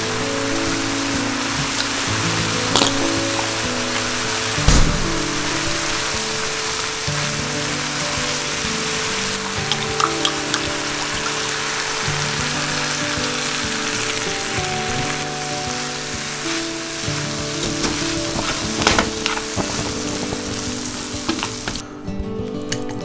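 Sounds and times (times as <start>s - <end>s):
food sizzling in a frying pan: 0.0s - 21.8s.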